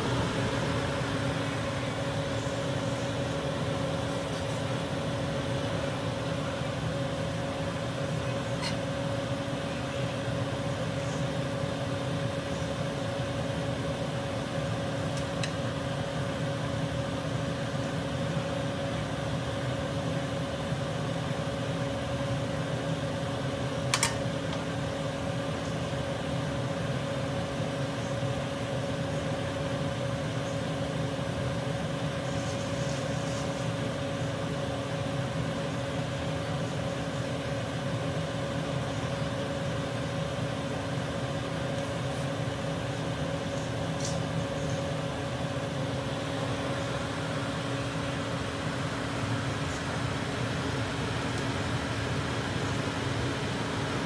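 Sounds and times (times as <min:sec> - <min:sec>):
exhaust fan humming: 0:00.0 - 0:54.0.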